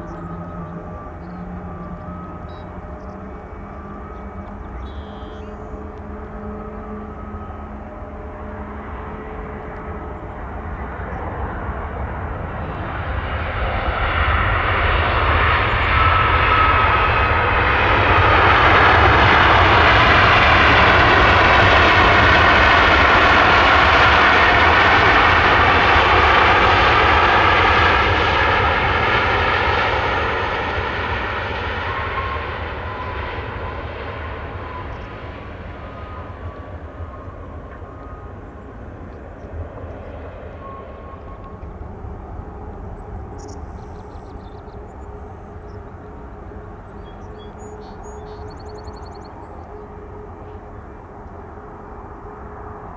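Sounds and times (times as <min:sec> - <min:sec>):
jet airliner passing by: 0:00.0 - 0:52.9.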